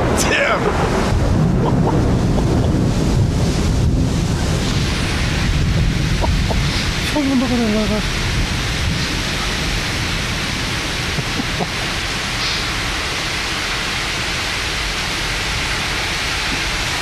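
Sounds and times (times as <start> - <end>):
heavy rain pouring: 0.0 - 17.0
low rumble: 0.0 - 17.0.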